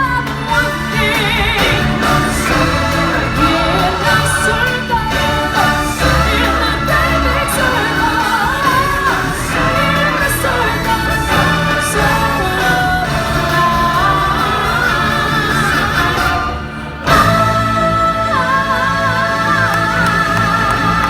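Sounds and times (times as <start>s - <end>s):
band with bass line: 0.0s - 21.0s
singers and choir: 0.0s - 21.0s.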